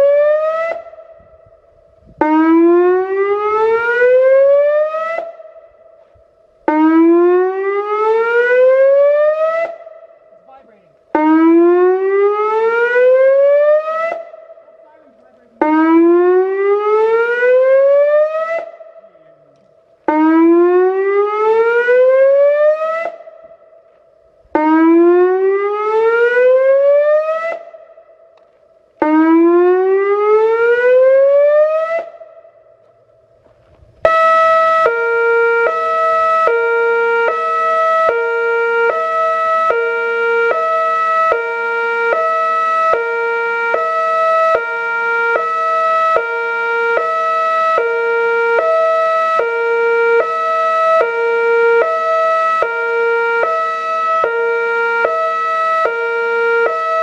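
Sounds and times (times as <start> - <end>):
electronic warning siren: 0.0 - 57.0.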